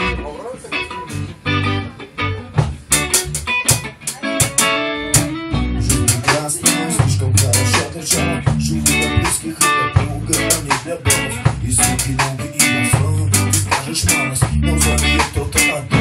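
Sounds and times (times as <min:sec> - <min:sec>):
bass guitar notes: 0:00.0 - 0:16.0
drum kit steady beat: 0:02.4 - 0:16.0.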